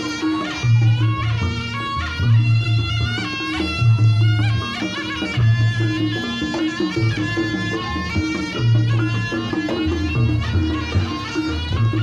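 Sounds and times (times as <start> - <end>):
reedy shawm melody: 0.0 - 12.0.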